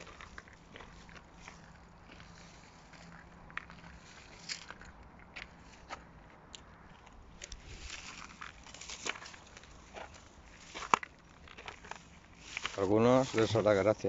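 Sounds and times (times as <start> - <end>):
footsteps crunching on dry soil: 0.0 - 14.0.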